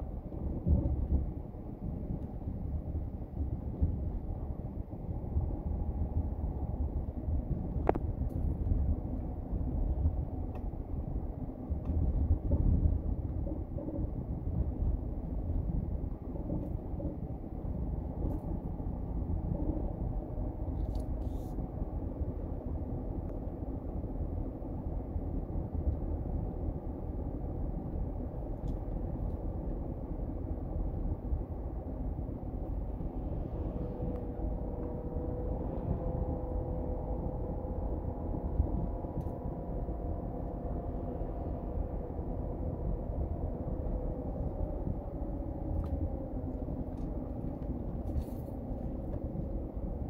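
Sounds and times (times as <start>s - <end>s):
car road and engine rumble: 0.0s - 50.0s.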